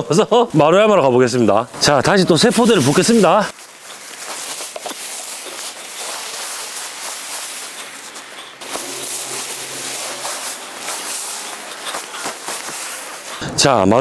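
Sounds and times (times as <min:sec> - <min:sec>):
dry leaves rustling and crackling: 0:00.1 - 0:13.4
plastic sack rustling: 0:01.4 - 0:13.4.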